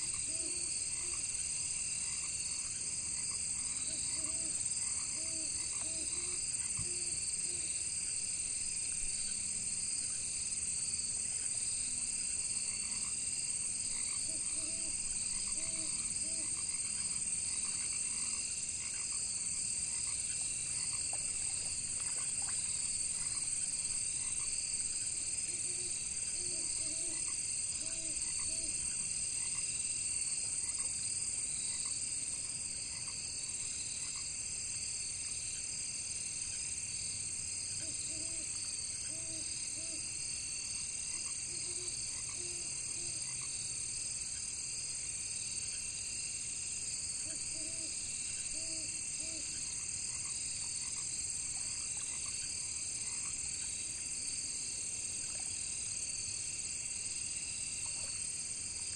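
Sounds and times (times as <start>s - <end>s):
frogs croaking: 0.0s - 8.0s, 8.7s - 34.4s, 37.5s - 44.6s, 47.0s - 54.2s
crickets and insects chorus: 0.0s - 58.9s.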